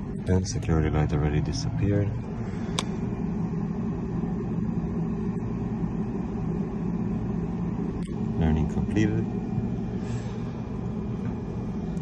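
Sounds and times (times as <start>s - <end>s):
car cabin hum and rumble: 0.0s - 12.0s.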